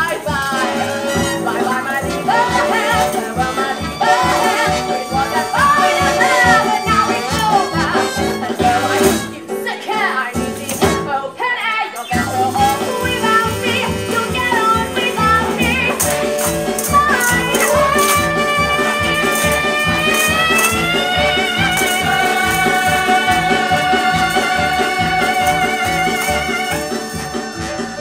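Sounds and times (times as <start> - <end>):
band playing fast beat: 0.0 - 9.4, 12.2 - 28.0
shaken and struck percussion: 0.0 - 28.0.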